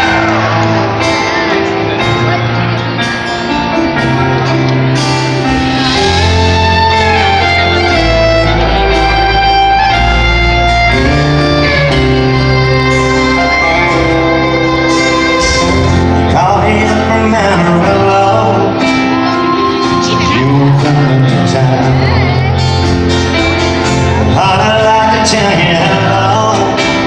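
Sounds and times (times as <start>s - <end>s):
fiddle: 0.0s - 27.0s
live country band: 0.0s - 27.0s.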